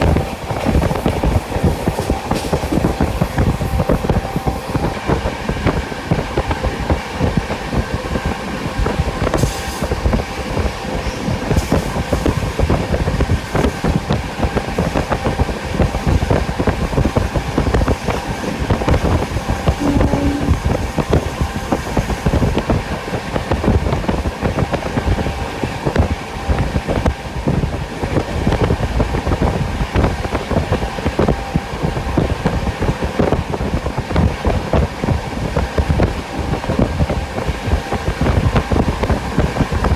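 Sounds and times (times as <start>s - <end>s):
train wheels rattling on track: 0.0s - 39.9s.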